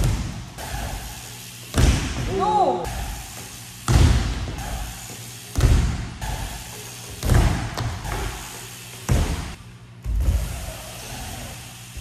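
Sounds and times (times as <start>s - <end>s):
bike wheels thudding on plywood ramps: 0.0s - 12.0s.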